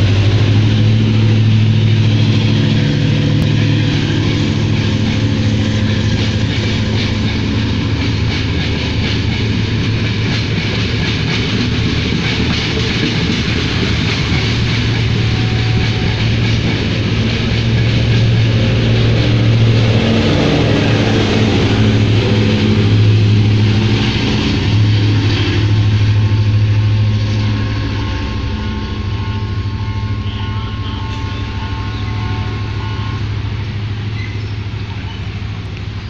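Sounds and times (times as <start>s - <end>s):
train engine drone: 0.0s - 36.0s
wheel and rail rumble: 0.0s - 36.0s.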